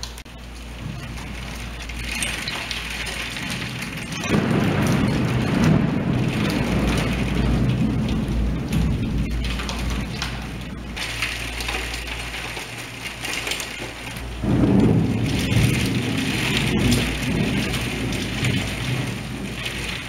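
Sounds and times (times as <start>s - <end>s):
heavy rain falling: 0.0s - 20.0s
thunder rumbling: 0.0s - 20.0s.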